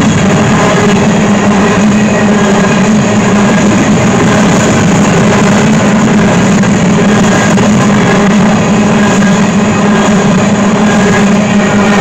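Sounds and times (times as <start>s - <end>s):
low hum: 0.0s - 12.0s
train wheels on rails: 0.0s - 12.0s.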